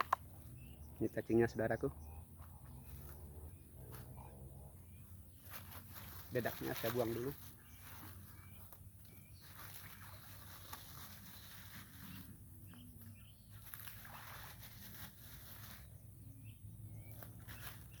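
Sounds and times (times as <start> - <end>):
bird chirps: 0.0 - 14.7, 15.6 - 18.0.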